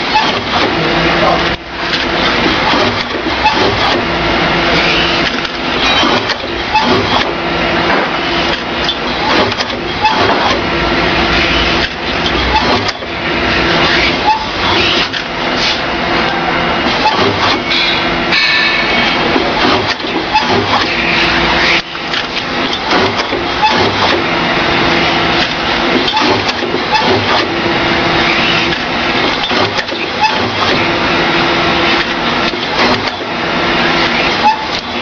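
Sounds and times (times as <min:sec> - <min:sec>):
machine clicks: 0:00.0 - 0:04.1, 0:04.8 - 0:10.7, 0:11.3 - 0:15.4, 0:16.8 - 0:31.0, 0:31.8 - 0:35.0
paper rustling through rollers: 0:00.0 - 0:35.0.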